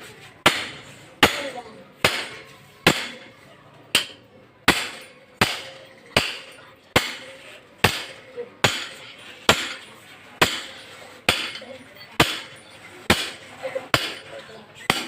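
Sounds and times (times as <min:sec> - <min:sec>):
hammer striking metal: 0:00.4 - 0:03.3, 0:03.9 - 0:14.3.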